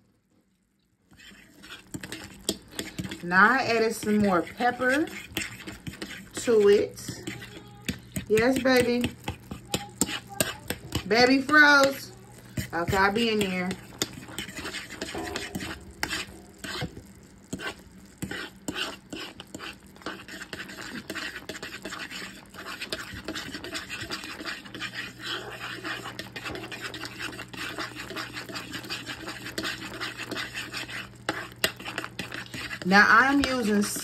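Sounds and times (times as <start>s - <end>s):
low steady hum: 0.0s - 34.0s
gravy simmering: 0.2s - 34.0s
utensil scraping metal pot: 1.1s - 34.0s.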